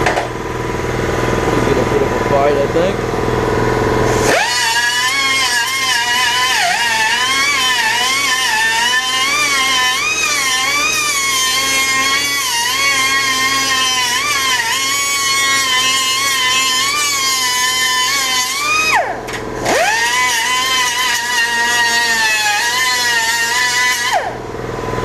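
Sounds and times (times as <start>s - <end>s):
power grinder cutting metal: 4.1s - 24.4s.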